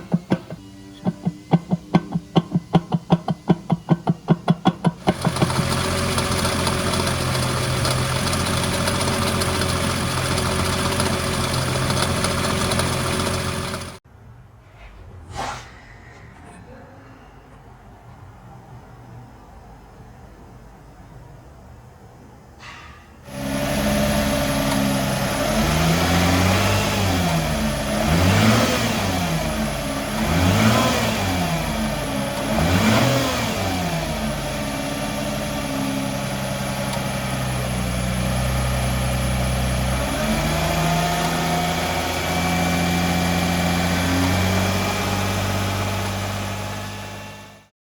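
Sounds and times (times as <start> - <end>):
car engine revving and idling: 0.0 - 14.0, 23.3 - 47.7.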